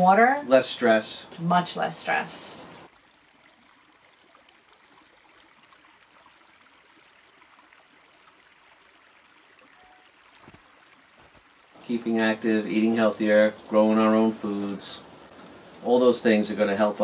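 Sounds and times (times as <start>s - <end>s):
brook flowing over rocks: 2.8s - 16.8s.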